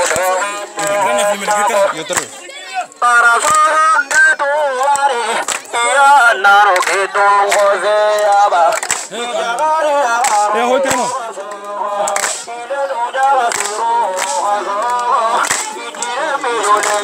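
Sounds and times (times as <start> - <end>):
voices singing ornamented melody: 0.0 - 17.0.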